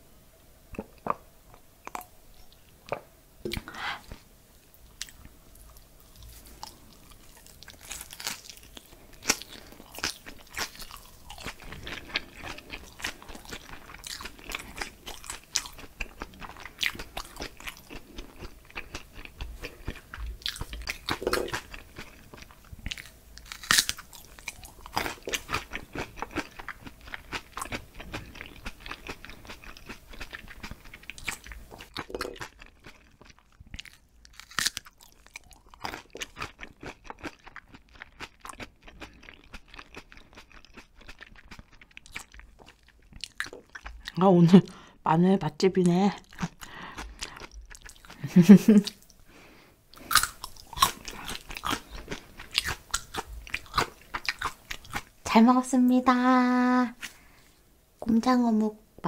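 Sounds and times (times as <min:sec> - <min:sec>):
crunchy chewing: 0:05.0 - 0:44.2, 0:46.2 - 0:49.2, 0:49.9 - 0:55.1.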